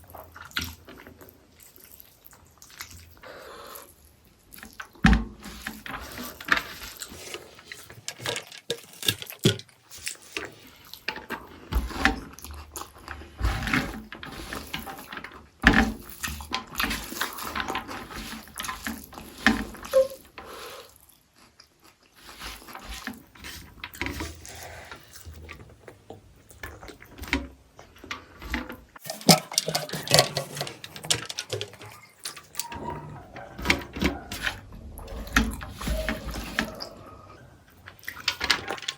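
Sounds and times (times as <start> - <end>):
wet squishing chewing: 0.0 - 28.2, 28.8 - 38.9.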